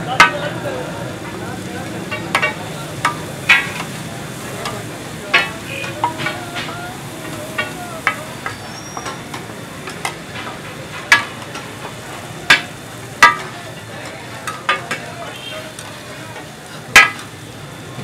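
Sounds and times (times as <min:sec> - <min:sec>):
chicken sizzling on a griddle: 0:00.0 - 0:18.0.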